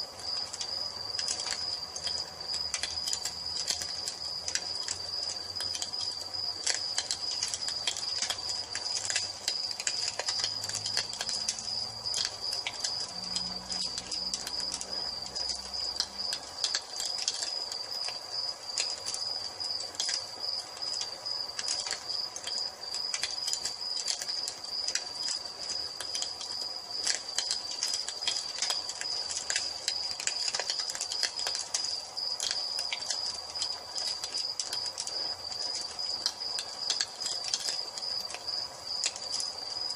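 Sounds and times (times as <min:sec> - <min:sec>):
cricket trill: 0:00.0 - 0:39.9
wood fire crackling: 0:00.0 - 0:39.9.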